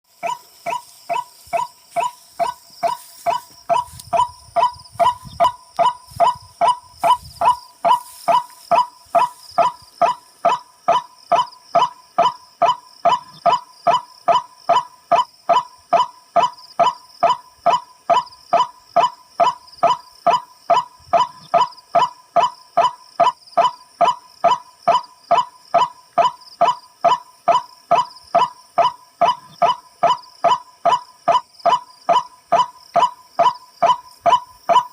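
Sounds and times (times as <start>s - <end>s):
bird honking call: 0.1s - 34.9s.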